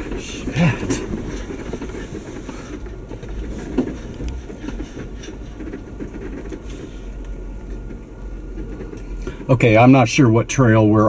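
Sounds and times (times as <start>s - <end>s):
tyres and body rattling: 0.0s - 11.0s
vehicle engine low drone: 0.0s - 11.0s.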